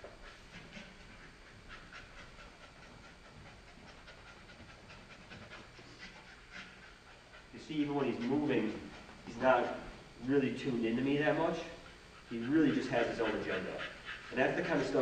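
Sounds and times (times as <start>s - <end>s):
dog panting faintly: 0.0s - 15.0s.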